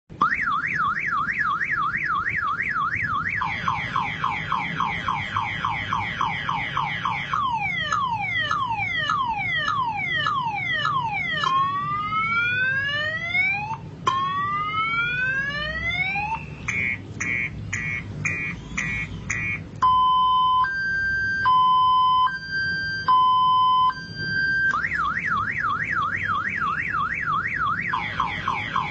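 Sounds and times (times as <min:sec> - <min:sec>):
car alarm siren: 0:00.1 - 0:28.9.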